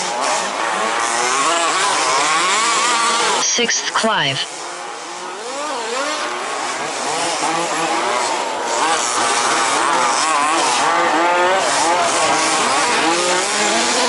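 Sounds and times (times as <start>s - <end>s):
small two-stroke engines revving: 0.0s - 3.4s, 4.5s - 14.0s.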